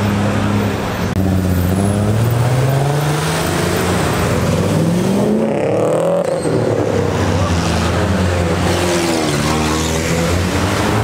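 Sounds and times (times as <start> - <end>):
car engines accelerating: 0.0 - 11.0.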